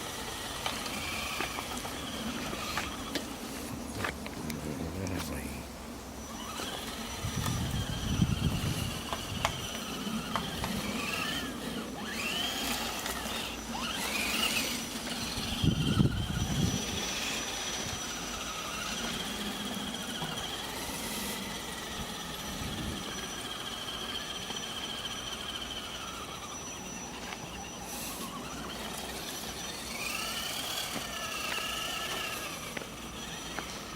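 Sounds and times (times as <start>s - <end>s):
toy car electric motor whining: 0.0s - 5.4s, 6.2s - 33.9s.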